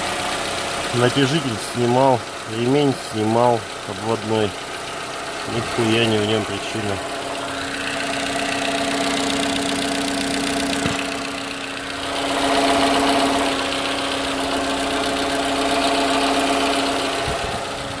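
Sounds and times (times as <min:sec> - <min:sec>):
car engine idling with knock: 0:00.0 - 0:18.0.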